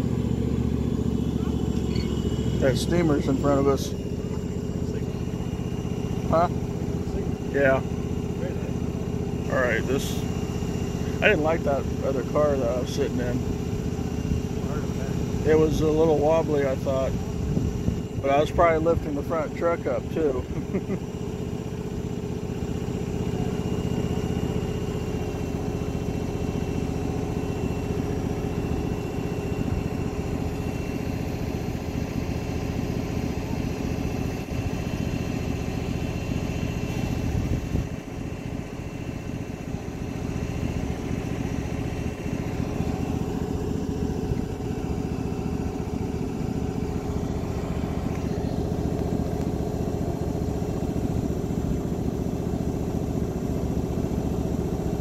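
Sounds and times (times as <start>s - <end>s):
miniature train engine humming: 0.0s - 55.0s.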